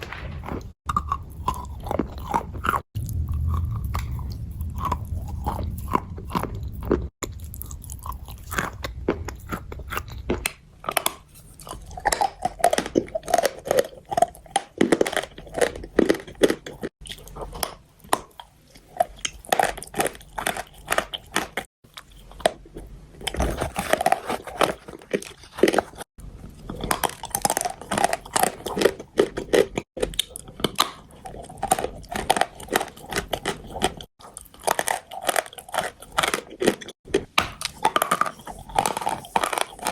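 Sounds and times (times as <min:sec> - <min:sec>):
chalk being chewed crunching: 0:00.2 - 0:37.0, 0:37.6 - 0:39.9.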